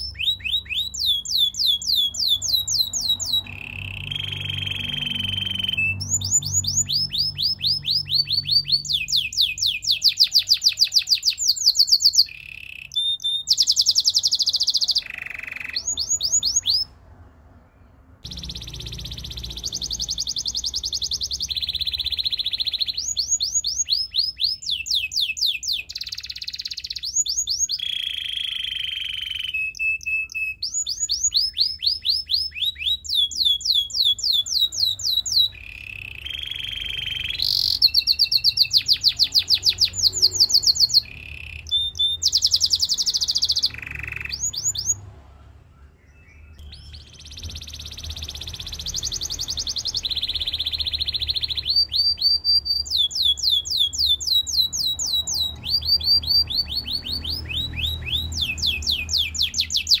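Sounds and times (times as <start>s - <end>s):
canary singing: 0.0s - 60.0s.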